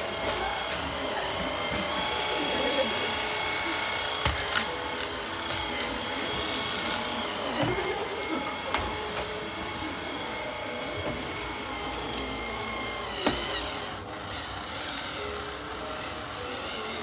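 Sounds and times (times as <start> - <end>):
stick vacuum cleaner whining: 0.0 - 17.0.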